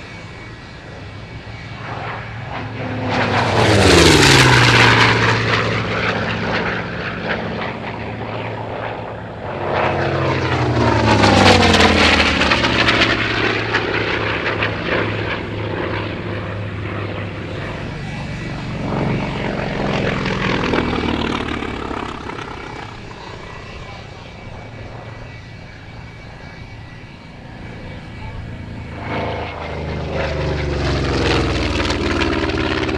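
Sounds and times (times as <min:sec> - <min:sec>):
propeller plane flying past: 0:00.0 - 0:32.9.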